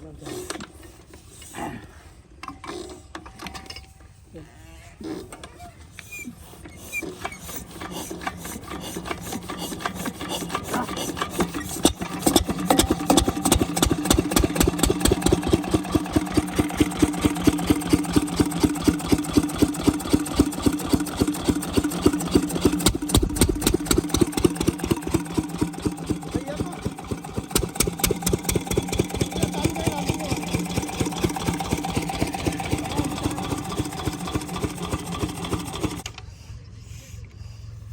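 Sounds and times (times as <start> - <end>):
diesel pump engine running: 6.7 - 37.9.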